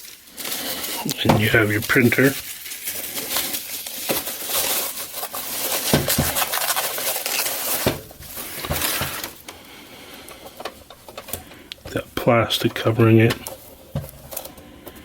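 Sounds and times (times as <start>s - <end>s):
plastic wrapping rustling: 0.0s - 15.0s.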